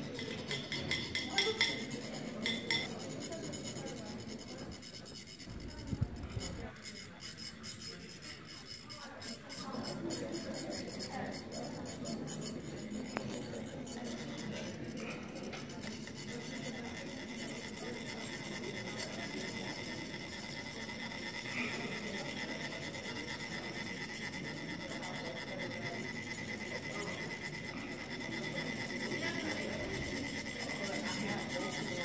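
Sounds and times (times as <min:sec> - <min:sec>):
metal funnels rasping: 0:00.0 - 0:32.0.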